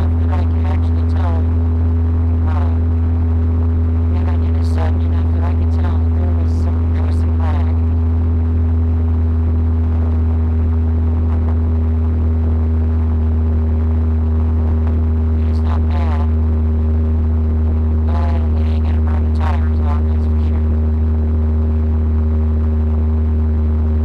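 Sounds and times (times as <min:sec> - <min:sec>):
car engine droning steadily: 0:00.0 - 0:24.0.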